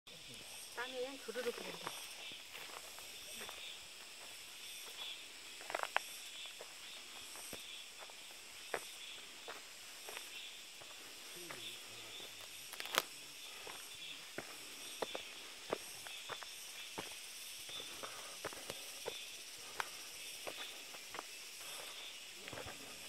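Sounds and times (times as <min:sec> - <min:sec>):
steady high hiss: 0:00.1 - 0:23.0
footsteps on dirt path: 0:01.4 - 0:23.0.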